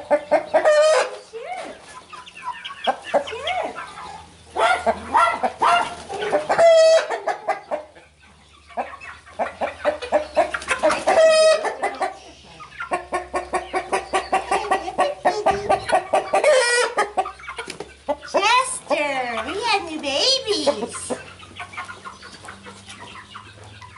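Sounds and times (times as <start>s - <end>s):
chickens clucking: 0.0s - 23.9s
chickens squawking: 0.0s - 23.9s.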